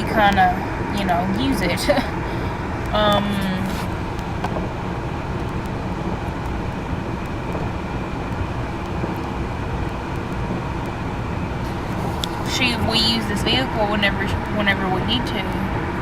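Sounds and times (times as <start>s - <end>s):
car engine running: 0.0s - 16.0s
car heater blowing: 0.0s - 16.0s.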